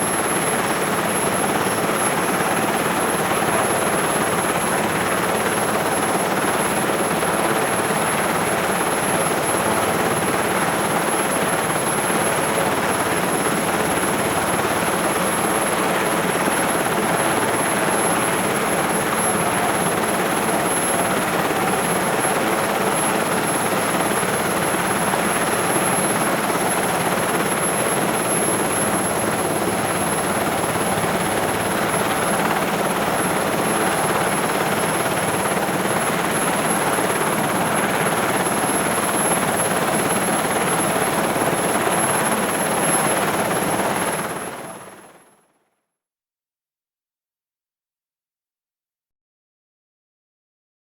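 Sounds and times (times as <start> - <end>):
helicopter idling inside cabin: 0.0 - 44.8.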